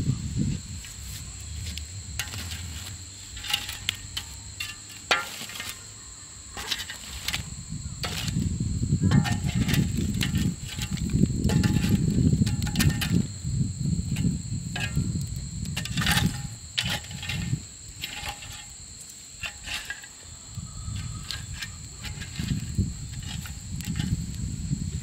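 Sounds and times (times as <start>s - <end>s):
high insect trill: 0.0s - 25.0s
metal spade scraping through ashes: 0.8s - 13.4s, 14.0s - 24.4s.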